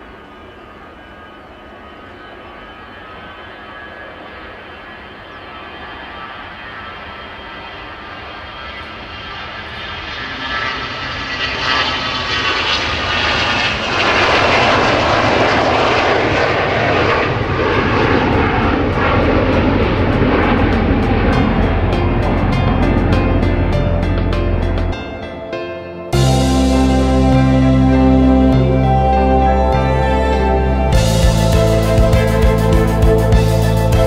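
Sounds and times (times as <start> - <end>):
jet engines during takeoff: 0.0 - 34.0.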